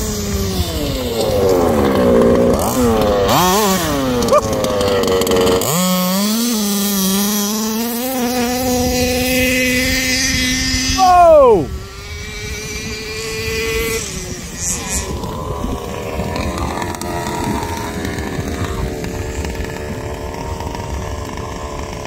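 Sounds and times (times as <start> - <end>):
model car engine revving: 0.0 - 22.0.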